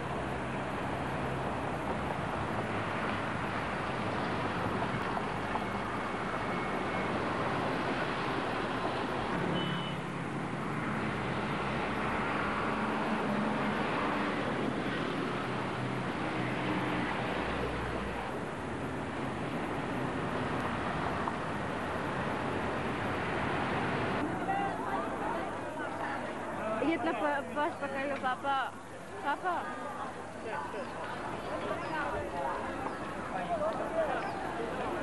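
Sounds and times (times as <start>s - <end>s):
road and traffic rumble: 0.0s - 35.0s.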